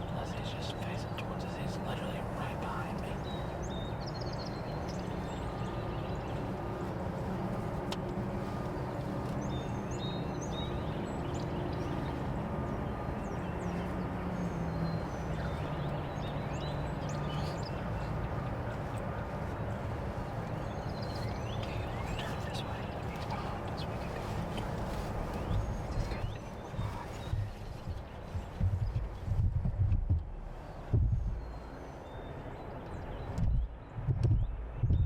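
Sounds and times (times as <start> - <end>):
low rumble of road traffic: 0.0 - 35.0
songbird chirps: 0.0 - 35.0.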